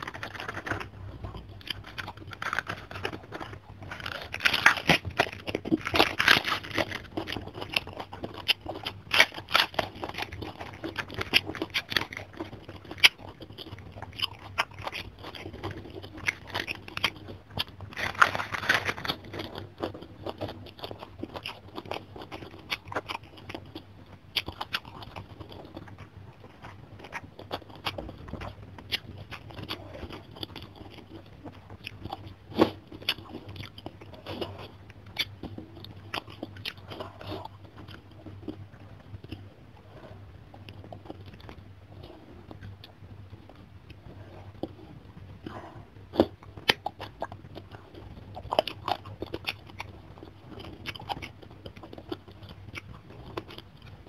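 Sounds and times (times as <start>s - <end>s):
person crunching cabbage leaf: 0.0s - 54.0s.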